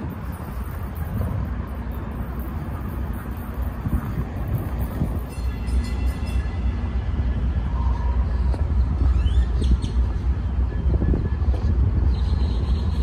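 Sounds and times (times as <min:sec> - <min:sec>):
wind buffeting microphone: 0:00.0 - 0:05.8, 0:06.4 - 0:13.0.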